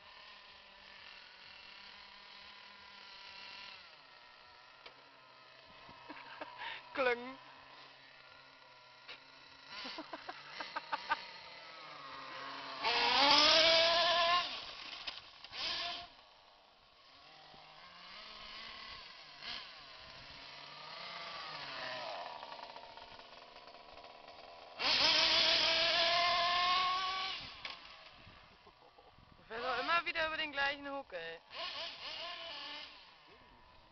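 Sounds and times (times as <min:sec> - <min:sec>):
toy car motor whining: 0:00.0 - 0:33.9.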